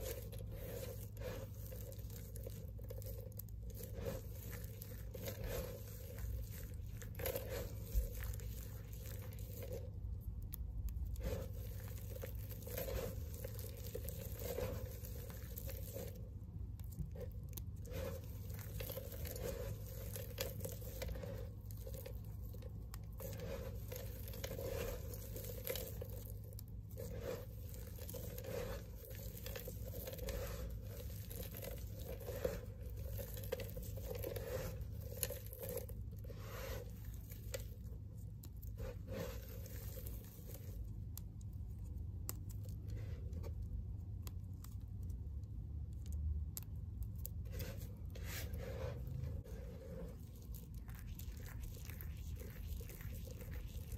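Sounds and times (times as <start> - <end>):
dry soap pieces crunching: 0.0 - 53.9.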